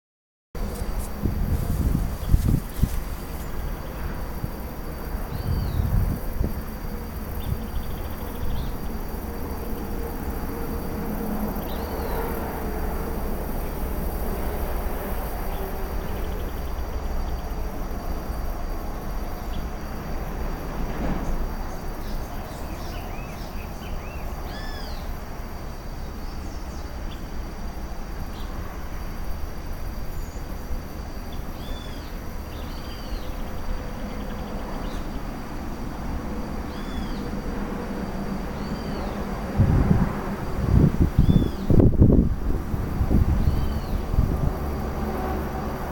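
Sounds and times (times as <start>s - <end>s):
high-pitched insect drone: 0.6s - 45.9s.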